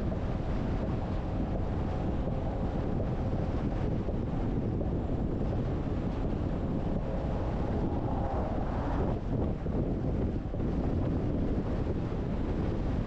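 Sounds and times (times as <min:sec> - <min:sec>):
wind and road noise from car: 0:00.0 - 0:13.0
wind buffeting microphone: 0:00.0 - 0:13.0.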